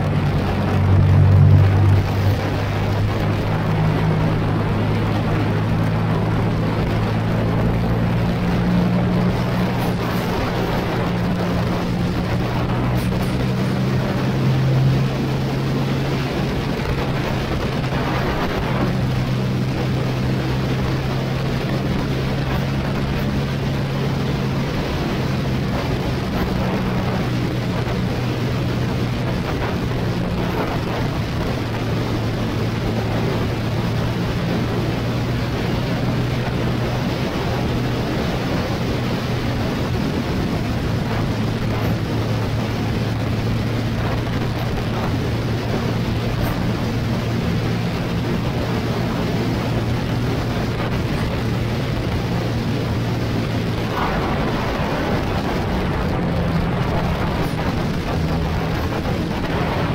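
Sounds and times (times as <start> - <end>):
motorcycle engine running: 0.0 - 59.9
wind rushing: 0.0 - 59.9.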